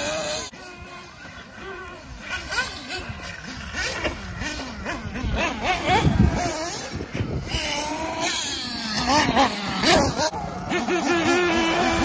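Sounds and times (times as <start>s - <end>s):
rc buggy motors whining: 0.0s - 12.0s.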